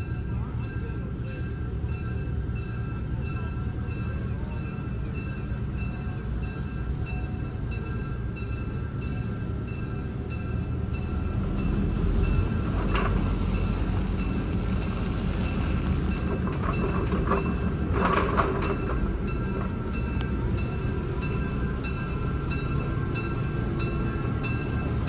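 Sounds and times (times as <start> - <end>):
diesel locomotive engine rumbling: 0.0 - 25.0
locomotive bell ringing: 0.0 - 25.0.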